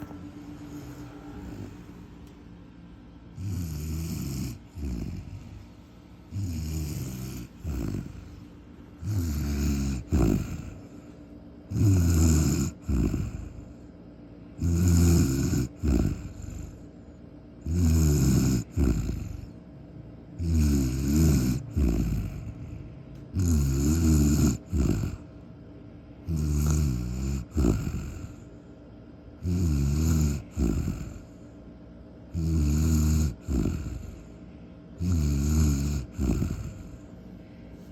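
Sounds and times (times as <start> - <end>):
deep snoring: 0.0 - 2.0, 3.3 - 5.7, 6.3 - 13.8, 14.5 - 19.6, 20.4 - 25.3, 26.2 - 28.5, 29.4 - 31.5, 32.3 - 34.4, 35.0 - 37.1.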